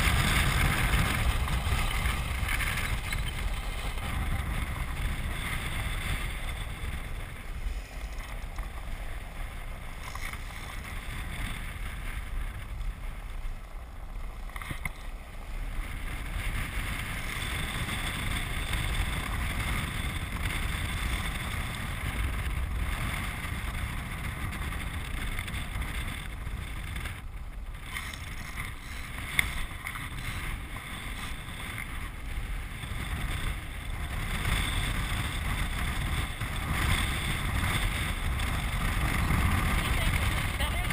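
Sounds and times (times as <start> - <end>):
wheels rumbling on hard ground: 0.0 - 40.9
wind buffeting microphone: 0.0 - 40.9.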